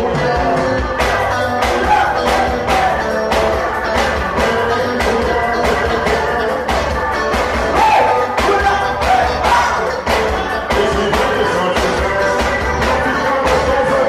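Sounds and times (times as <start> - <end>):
music with steady beat: 0.0 - 14.0.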